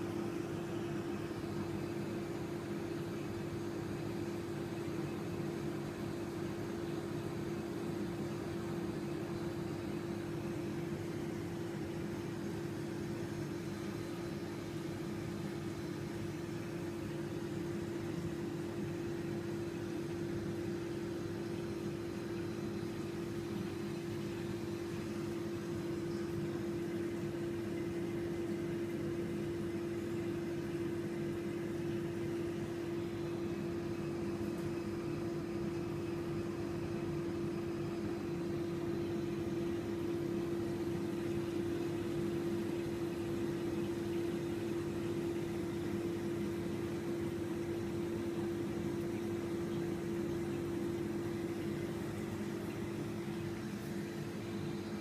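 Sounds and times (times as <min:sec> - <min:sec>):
aquarium pumps humming: 0:00.0 - 0:55.0.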